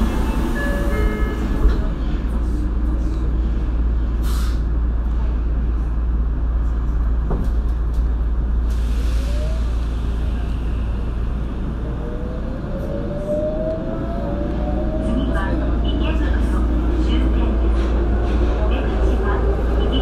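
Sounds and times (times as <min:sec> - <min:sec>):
subway wheels rumbling on rails: 0:00.0 - 0:20.0.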